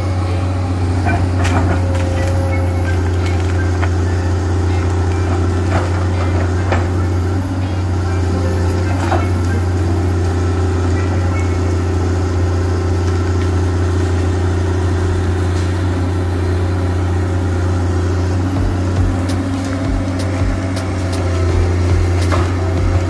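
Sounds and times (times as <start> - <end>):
excavator diesel engine humming: 0.0 - 23.0.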